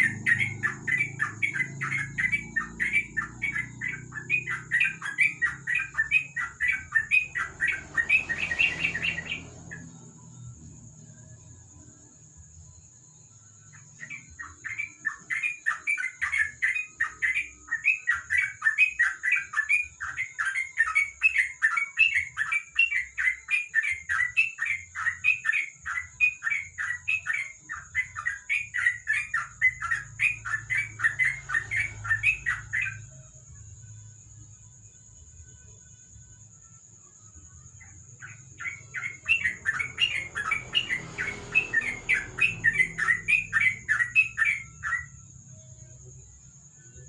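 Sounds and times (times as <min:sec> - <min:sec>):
bird chirping: 0:00.0 - 0:47.0.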